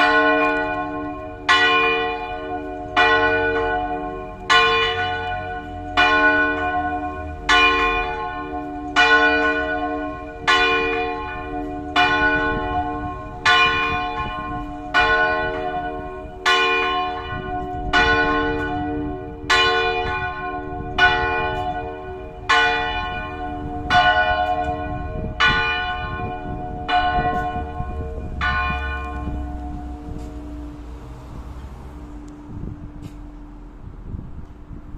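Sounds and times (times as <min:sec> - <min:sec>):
church bell tolling: 0:00.0 - 0:34.0.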